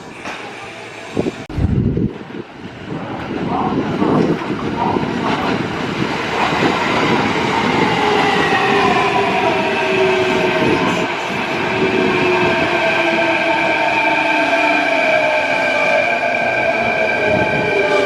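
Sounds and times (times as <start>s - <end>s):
train rumbling and clattering: 0.0s - 18.0s.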